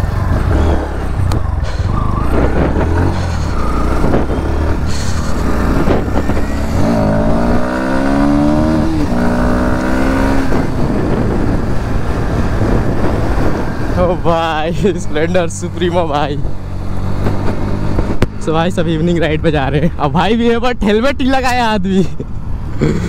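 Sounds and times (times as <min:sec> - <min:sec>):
motorcycle engine accelerating: 0:00.0 - 0:19.2
wind rushing over microphone: 0:00.0 - 0:20.5.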